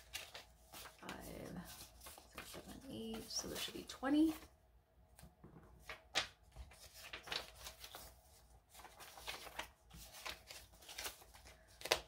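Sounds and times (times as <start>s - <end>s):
paper bills rustling: 0.0s - 4.4s, 5.8s - 12.0s.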